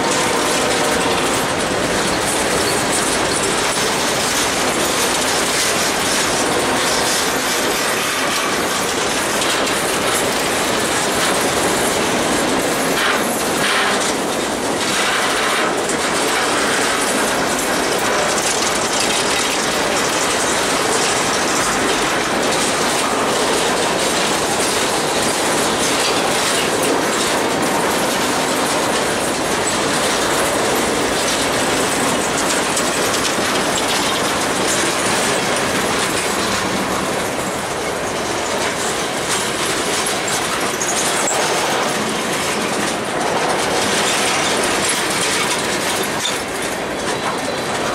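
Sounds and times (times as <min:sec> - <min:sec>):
train wheels clattering over rail joints: 0:00.0 - 0:47.9.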